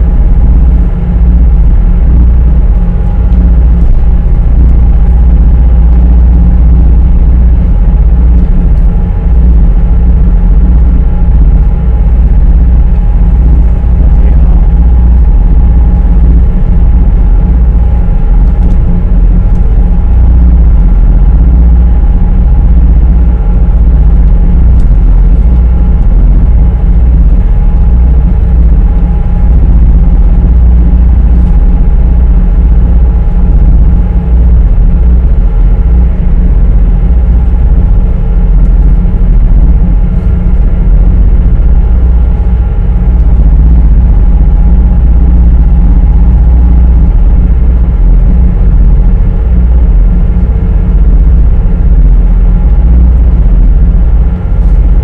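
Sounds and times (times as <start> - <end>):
ferry engines rumbling: 0.0 - 52.0
faint humming tones: 0.0 - 55.0.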